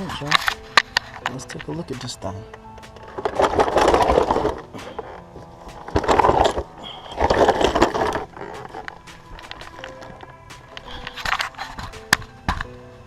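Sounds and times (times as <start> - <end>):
scraping and rattling: 0.0 - 12.7
faint background music: 0.0 - 13.0.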